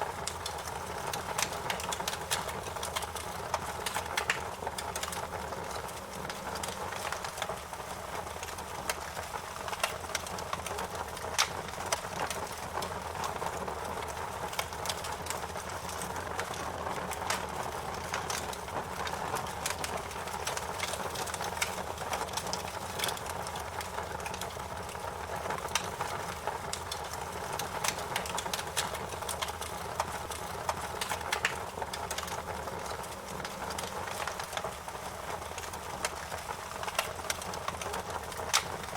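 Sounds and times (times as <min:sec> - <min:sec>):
wood fire crackling in fireplace: 0:00.0 - 0:38.9.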